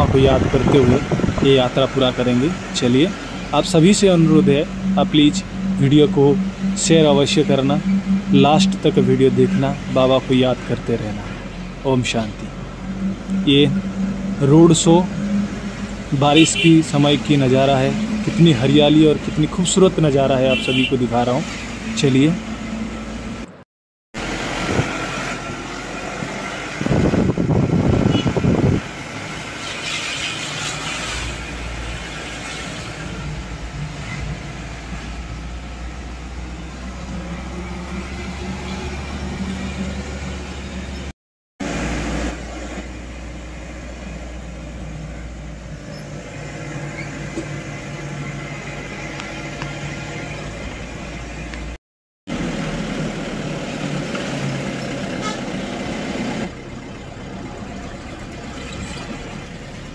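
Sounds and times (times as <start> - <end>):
car engine and tyre rumble: 0.0 - 23.6, 24.2 - 59.9.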